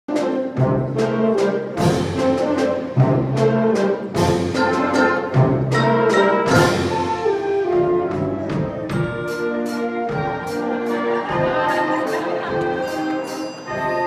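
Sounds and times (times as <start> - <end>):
wind ensemble accented chords: 0.1 - 14.0.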